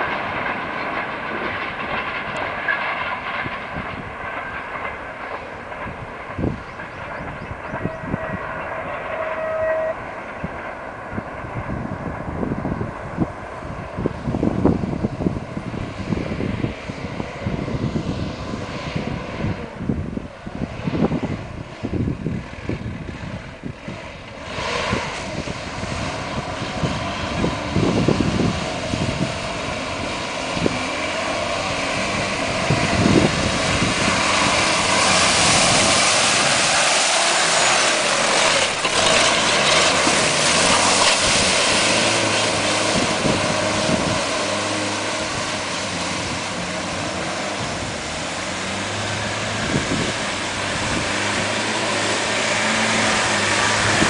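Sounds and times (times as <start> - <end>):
diesel engine under load: 0.0 - 54.0
tyres churning through mud: 0.0 - 54.0.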